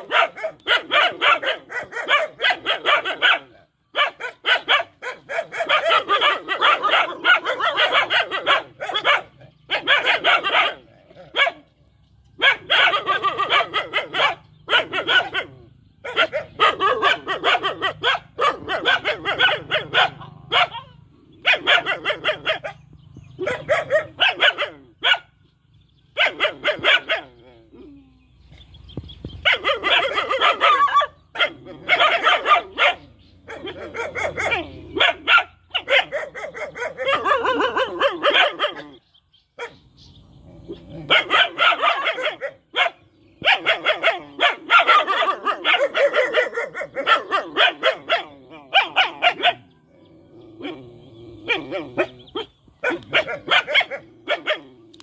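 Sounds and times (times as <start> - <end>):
puppies barking: 0.0 - 28.0, 29.2 - 55.0.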